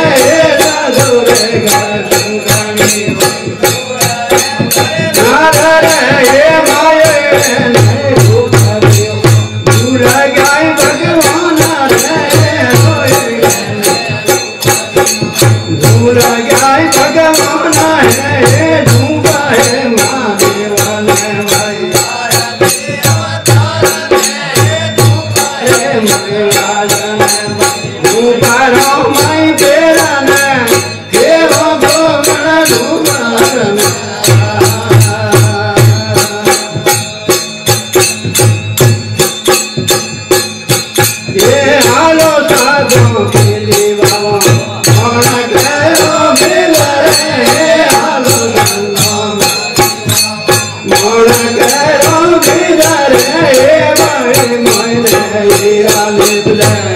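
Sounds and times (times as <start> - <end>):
man singing: 0.0 - 56.9
small hand cymbals: 0.1 - 56.9.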